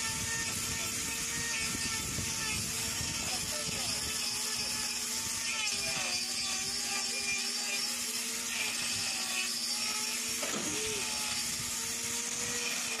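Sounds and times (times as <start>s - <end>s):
electric grinder motor whine: 0.0s - 13.0s
grinding disc on hoof: 0.0s - 13.0s.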